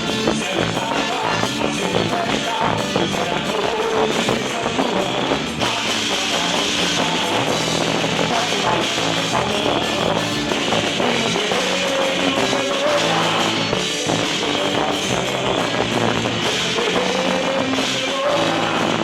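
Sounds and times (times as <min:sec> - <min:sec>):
loud dance music with drum beat: 0:00.0 - 0:19.0.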